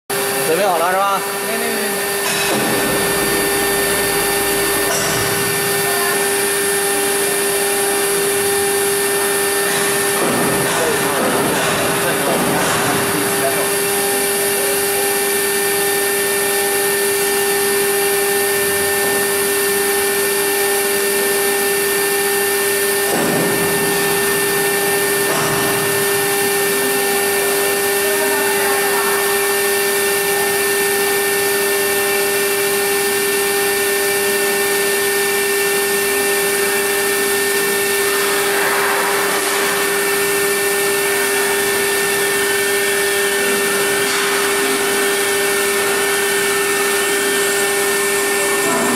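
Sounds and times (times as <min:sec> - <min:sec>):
engraving bit cutting tile: 0:00.1 - 0:48.9
router spindle high whine: 0:00.1 - 0:48.9.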